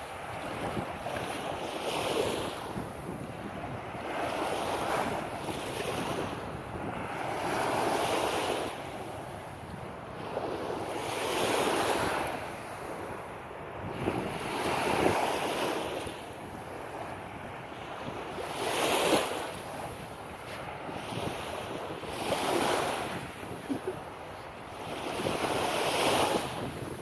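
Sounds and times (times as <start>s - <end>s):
waves washing onto beach: 0.0s - 27.0s
wind buffeting microphone: 0.0s - 27.0s.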